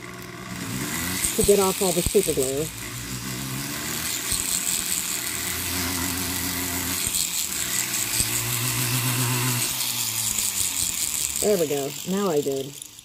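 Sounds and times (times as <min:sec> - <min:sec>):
rotary tool whirring: 0:00.0 - 0:13.0.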